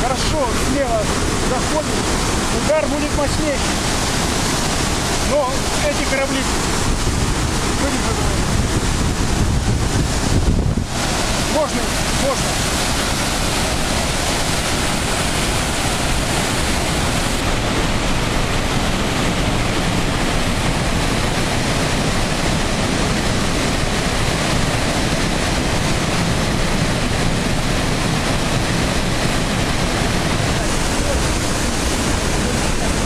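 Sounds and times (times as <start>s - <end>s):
waterfall rushing over boulders: 0.0s - 33.0s.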